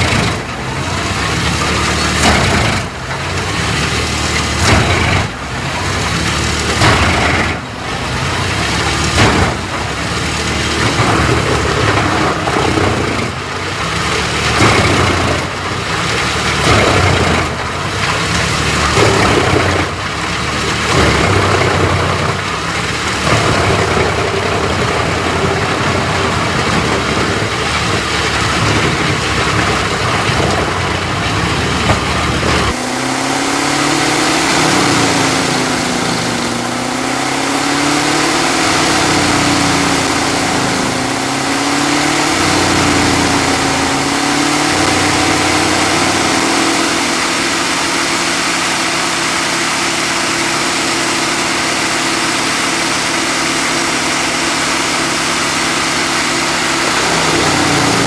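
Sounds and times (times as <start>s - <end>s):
engine running steadily: 0.0s - 58.0s
wood chipper grinding: 0.0s - 58.0s.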